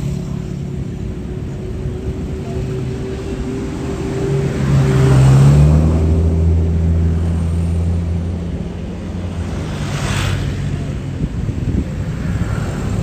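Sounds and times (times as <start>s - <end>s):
bus diesel engine revving: 0.0s - 13.0s.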